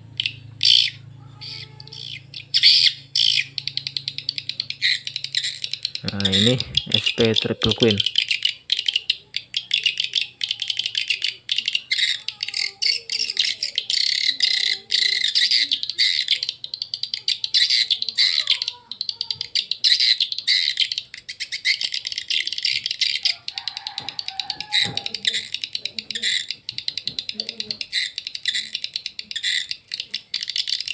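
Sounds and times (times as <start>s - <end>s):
faint low hum: 0.0s - 30.9s
recorded swiftlet chirps: 0.0s - 30.9s.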